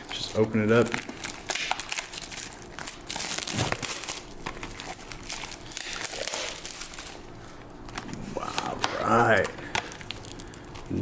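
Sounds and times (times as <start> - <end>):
plastic shrink-wrap crinkling: 0.0 - 11.0.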